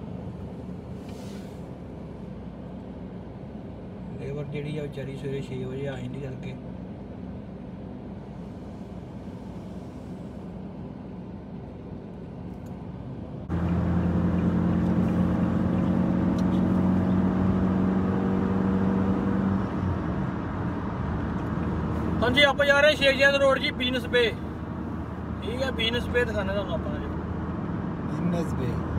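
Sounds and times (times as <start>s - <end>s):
car engine and road hum: 0.0s - 28.9s.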